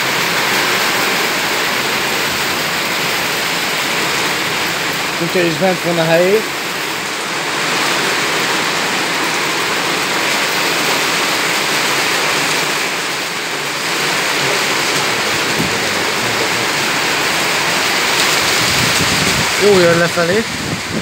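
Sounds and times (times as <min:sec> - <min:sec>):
heavy rain on concrete: 0:00.0 - 0:21.0.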